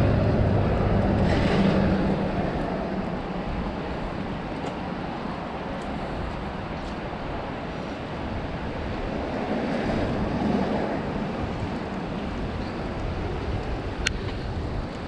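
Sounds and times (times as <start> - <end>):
city street ambience: 0.0 - 15.0.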